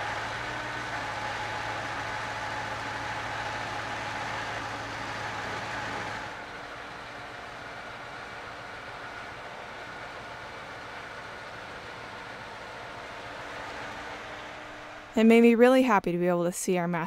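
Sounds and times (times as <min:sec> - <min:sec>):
truck engine idling: 0:00.0 - 0:15.2.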